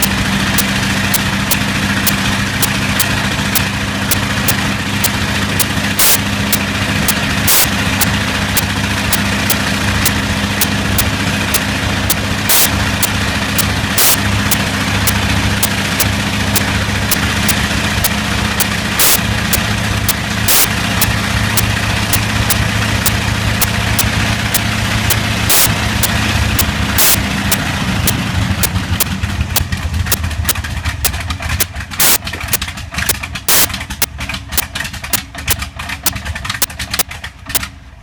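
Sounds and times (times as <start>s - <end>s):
faint regular ticking: 0.0s - 37.7s
engine misfire crack: 0.0s - 38.0s
radial engine running: 0.0s - 38.0s.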